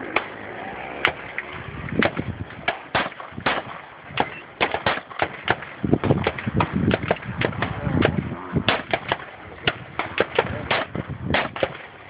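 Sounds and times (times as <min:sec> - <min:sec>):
pistol shots: 0:02.0 - 0:11.9.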